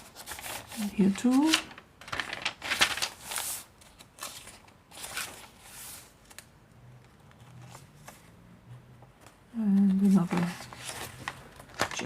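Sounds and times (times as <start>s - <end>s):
paper pages rustling: 0.0s - 8.4s, 9.0s - 12.0s.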